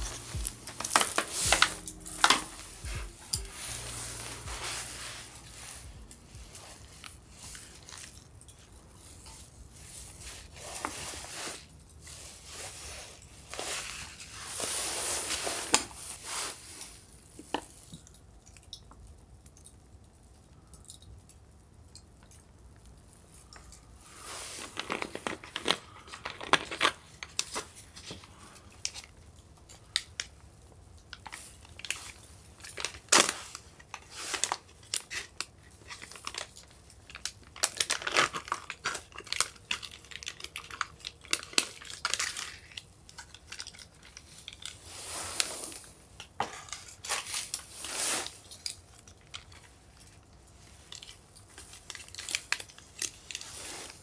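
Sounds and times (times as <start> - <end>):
plastic packets crinkling and tearing: 0.0 - 18.7, 22.2 - 54.0.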